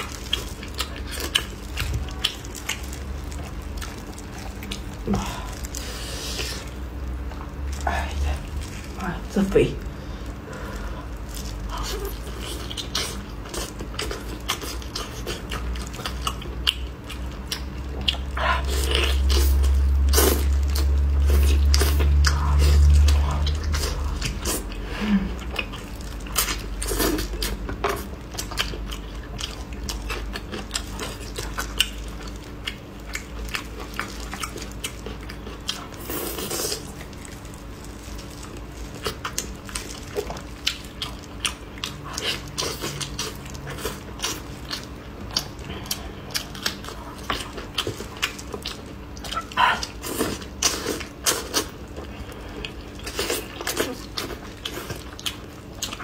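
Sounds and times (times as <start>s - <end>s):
chewing with wet mouth smacks: 0.0s - 56.0s.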